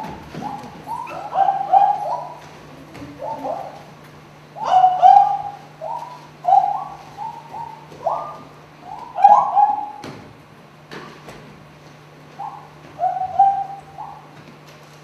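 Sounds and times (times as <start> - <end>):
cooing calls: 0.0 - 10.2, 12.2 - 14.4
low steady hum: 0.0 - 15.0.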